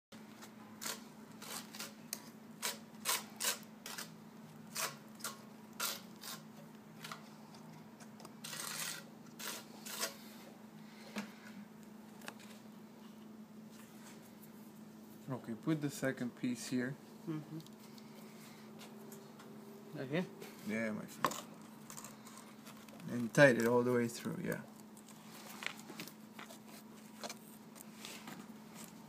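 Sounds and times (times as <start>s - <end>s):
faint steady hum: 0.1s - 29.0s.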